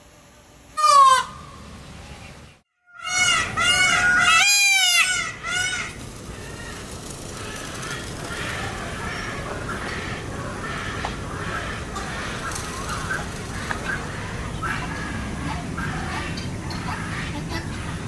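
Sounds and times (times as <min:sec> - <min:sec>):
peacock calling: 0:00.8 - 0:18.0.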